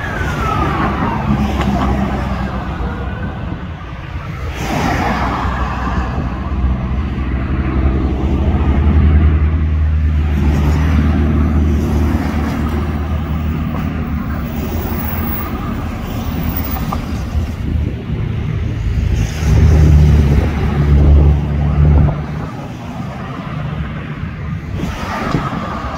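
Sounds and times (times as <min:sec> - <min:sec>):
cars passing slowly: 0:00.0 - 0:25.9.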